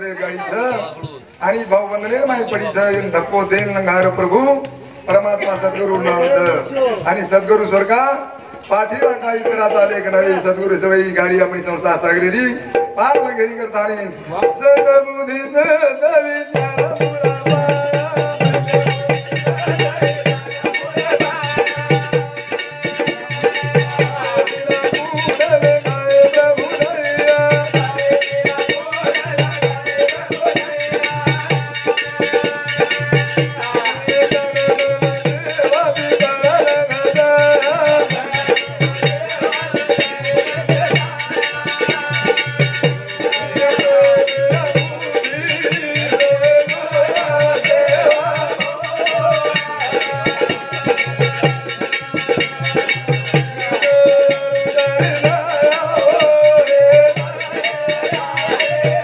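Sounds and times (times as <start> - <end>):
hand drum rhythm: 2.5 - 7.9, 16.5 - 59.0.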